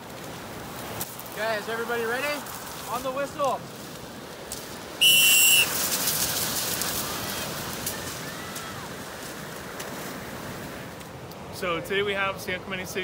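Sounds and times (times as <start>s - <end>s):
surf washing in: 0.0s - 13.0s.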